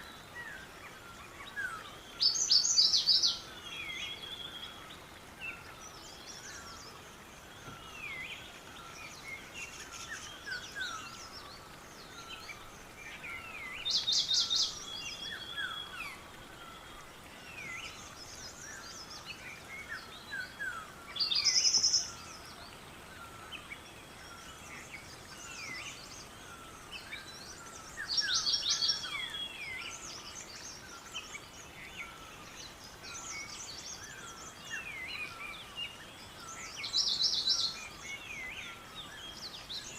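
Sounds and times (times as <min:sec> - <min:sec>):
songbirds chirping and whistling: 0:00.0 - 0:39.9
bird singing rapid trills: 0:01.2 - 0:06.9, 0:07.8 - 0:22.6, 0:23.5 - 0:39.9.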